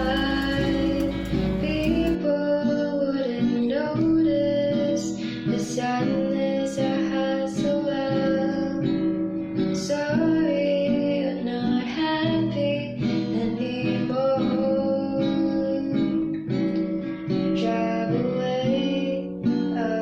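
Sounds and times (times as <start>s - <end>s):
plucked acoustic guitar melody: 0.0s - 20.0s.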